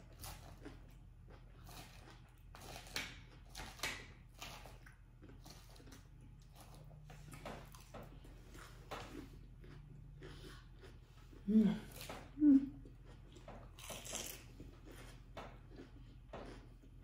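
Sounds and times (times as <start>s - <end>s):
chewing and crunching lettuce: 0.0s - 17.0s.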